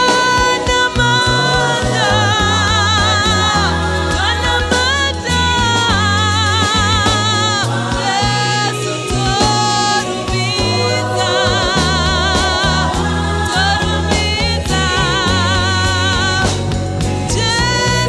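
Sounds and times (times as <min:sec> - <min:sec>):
band with bass and drums: 0:00.0 - 0:18.0
gospel choir singing: 0:00.0 - 0:18.0.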